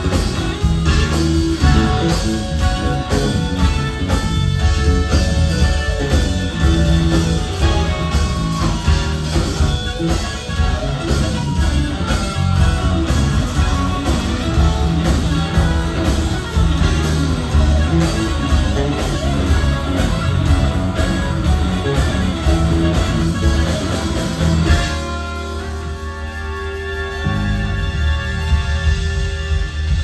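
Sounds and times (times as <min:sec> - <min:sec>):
drums: 0:00.0 - 0:30.0
electric bass: 0:00.0 - 0:30.0
electric guitar: 0:00.0 - 0:30.0
keyboards: 0:00.0 - 0:30.0.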